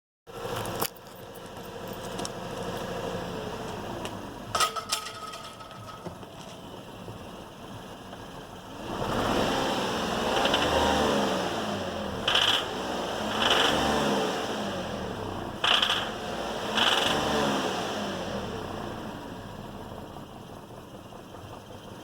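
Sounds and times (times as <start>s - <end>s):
car engine knocking and revving: 0.3s - 22.0s.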